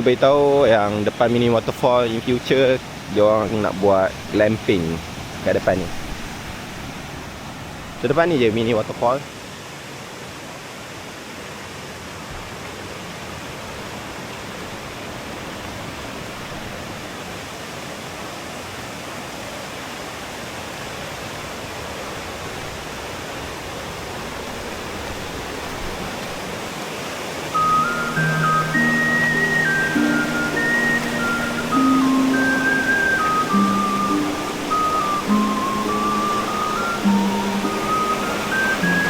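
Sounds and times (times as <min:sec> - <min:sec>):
waterfall water rushing: 0:00.0 - 0:39.0.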